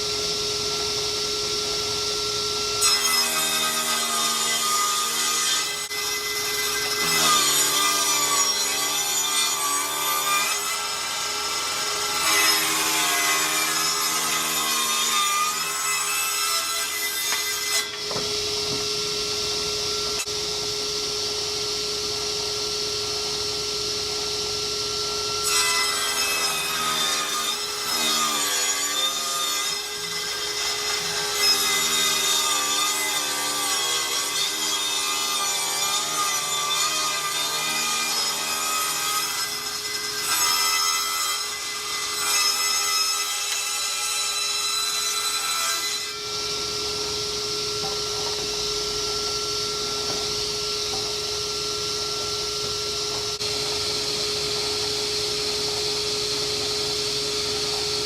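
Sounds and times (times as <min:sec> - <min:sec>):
electric saw cutting wood: 0:00.0 - 0:58.0.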